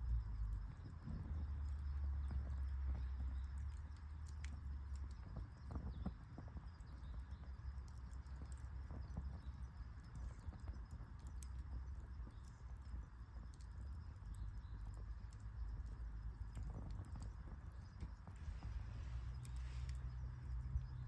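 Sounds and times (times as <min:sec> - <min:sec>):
campfire crackling: 0:00.0 - 0:21.0
faint low rumble: 0:00.0 - 0:21.0.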